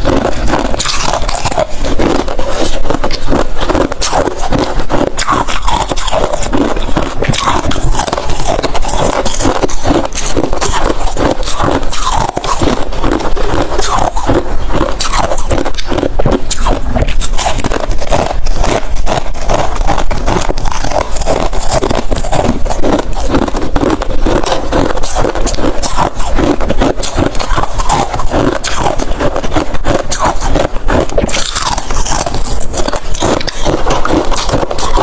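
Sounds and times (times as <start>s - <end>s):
ice crunching between teeth: 0.0s - 35.0s.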